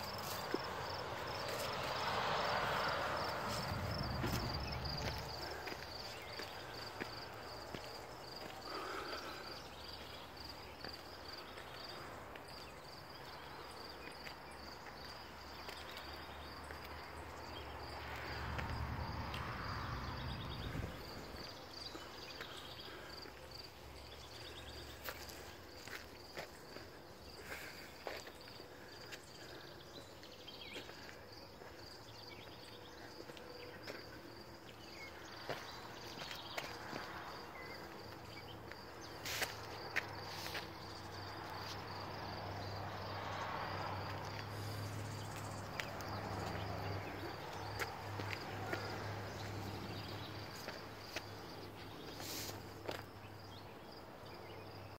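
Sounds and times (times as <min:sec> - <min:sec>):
insect chirping: 0:00.0 - 0:54.9.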